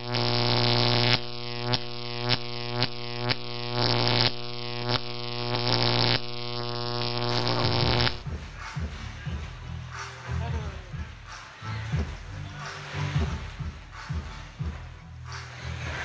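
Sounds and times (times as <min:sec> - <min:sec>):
pulsing buzzy drone: 0:00.0 - 0:16.0.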